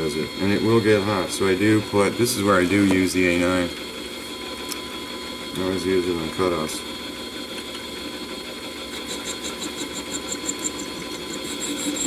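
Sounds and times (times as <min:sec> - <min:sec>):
lathe motor humming and whining: 0:00.0 - 0:12.0.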